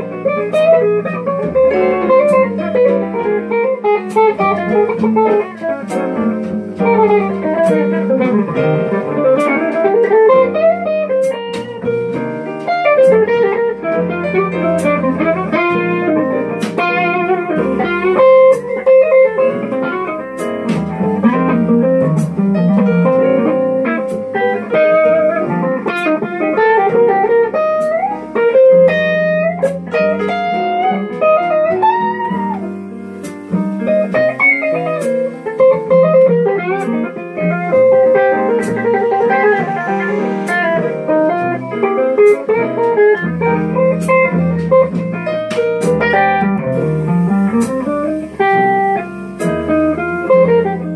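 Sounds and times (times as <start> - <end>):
electric guitar picked notes: 0.0 - 50.9.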